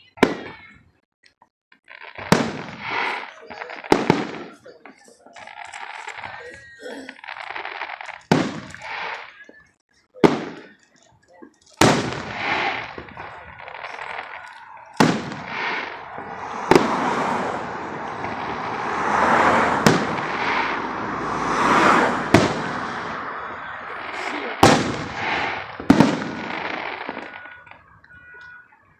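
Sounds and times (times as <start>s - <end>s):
fireworks bangs: 0.0s - 0.8s, 1.8s - 28.7s
fireworks crackling hiss: 1.8s - 28.6s.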